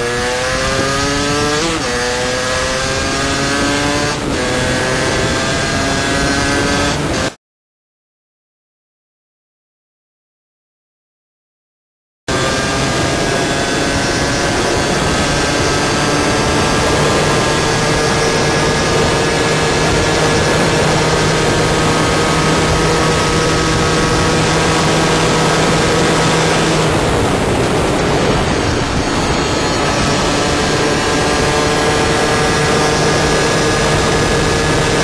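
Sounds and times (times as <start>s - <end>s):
two-stroke motorbike engine: 0.0s - 7.3s, 12.3s - 35.0s
wind noise on microphone: 0.0s - 7.3s, 12.3s - 35.0s.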